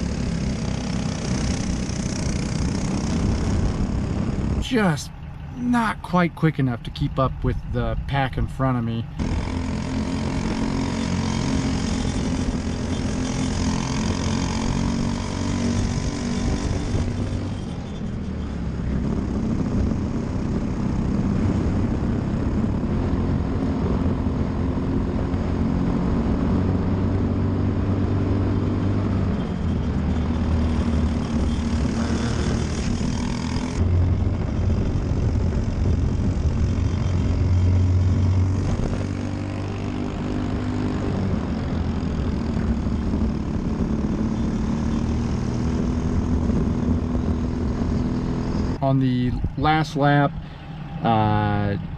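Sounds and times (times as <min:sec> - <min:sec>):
kart engine racing: 0:00.0 - 0:05.6, 0:09.1 - 0:51.9.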